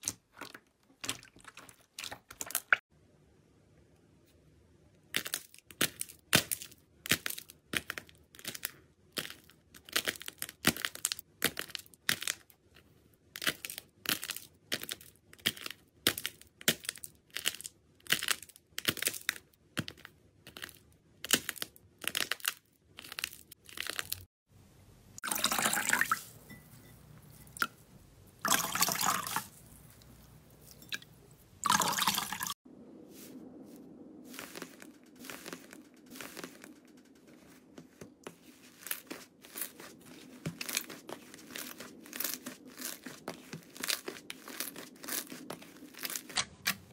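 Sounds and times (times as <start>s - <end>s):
slime squelching: 0.0s - 2.8s, 5.0s - 24.3s, 25.2s - 32.6s, 33.2s - 36.8s, 37.4s - 46.9s.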